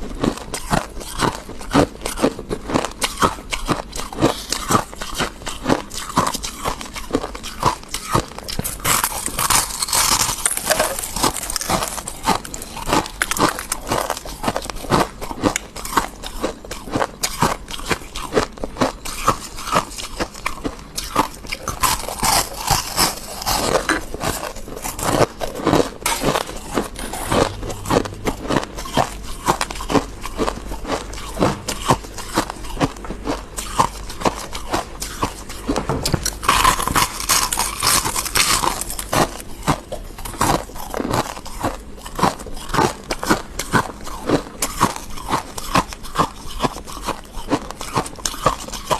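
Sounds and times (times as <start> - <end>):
chewing crunchy frost: 0.0 - 48.9.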